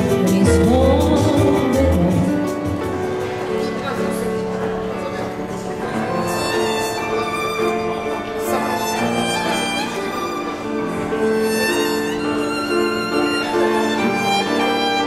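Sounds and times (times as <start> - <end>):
piano accompaniment: 0.0 - 15.0
violins playing bowed melody: 2.9 - 15.0.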